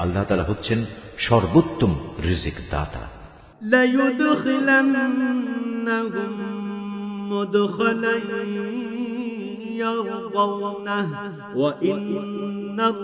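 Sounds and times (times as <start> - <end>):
man chanting melodic recitation: 0.0 - 13.0.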